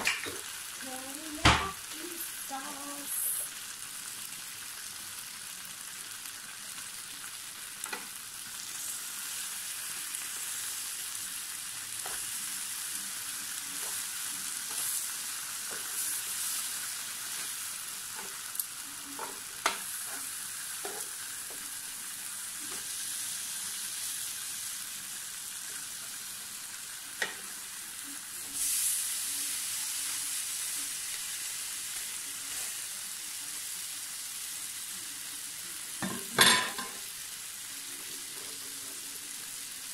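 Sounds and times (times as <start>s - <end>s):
ribs sizzling on a grill plate: 0.0s - 39.9s.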